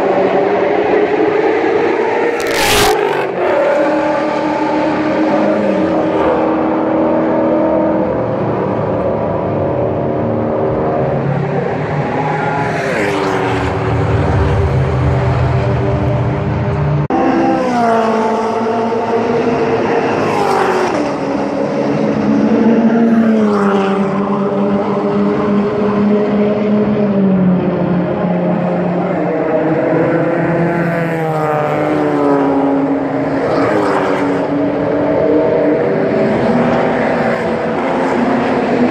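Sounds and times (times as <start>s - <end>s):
race car engines running hard: 0.0s - 38.9s.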